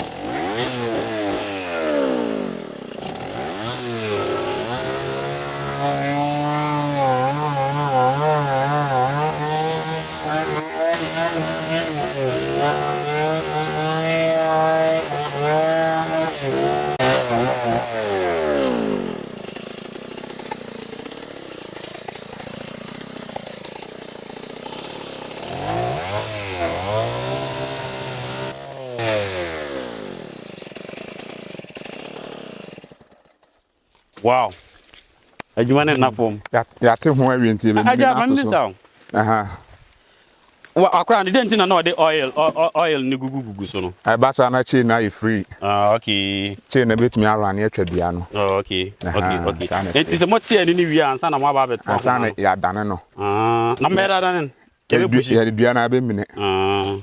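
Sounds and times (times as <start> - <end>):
chainsaw engine revving: 0.0 - 33.5, 35.6 - 38.6, 41.3 - 44.2, 45.1 - 55.2, 56.4 - 57.0
chainsaw idling: 0.0 - 33.6, 41.3 - 52.4, 53.0 - 55.1, 56.4 - 57.0.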